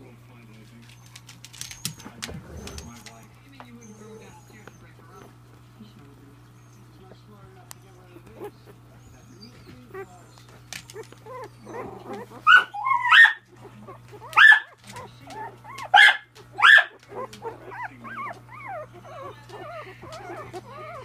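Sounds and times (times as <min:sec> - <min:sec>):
puppies whining: 0:00.0 - 0:21.0
puppies yelping: 0:00.8 - 0:05.6, 0:06.4 - 0:21.0.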